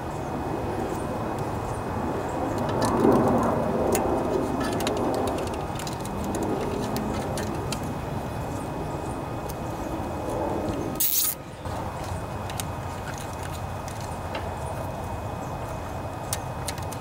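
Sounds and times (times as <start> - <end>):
passing vehicle rumble: 0.0 - 16.3.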